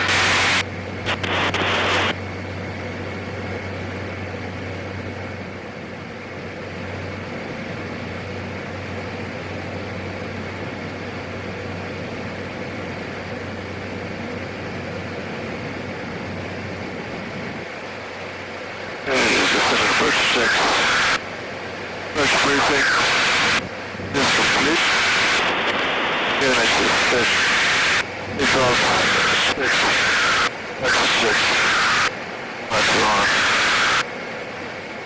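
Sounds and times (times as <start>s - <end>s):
constant hiss: 0.0s - 35.0s
turboprop engine droning: 0.0s - 35.0s.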